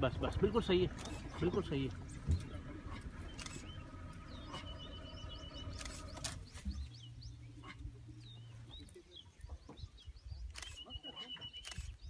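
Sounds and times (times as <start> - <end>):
steady low rumble: 0.0 - 10.8
small birds chirping: 0.0 - 12.0.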